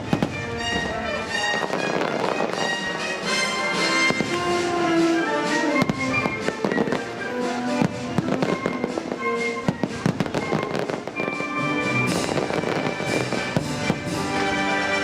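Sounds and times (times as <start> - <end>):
fireworks bangs and crackles: 0.0 - 15.0
orchestral music: 0.0 - 15.0.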